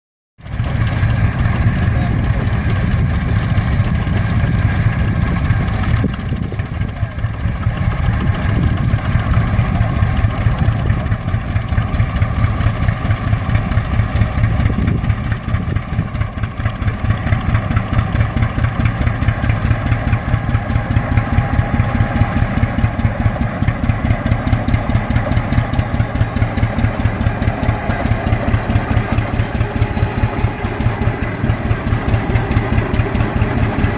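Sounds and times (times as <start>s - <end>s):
tractor engine exhaust beat: 0.4s - 33.9s.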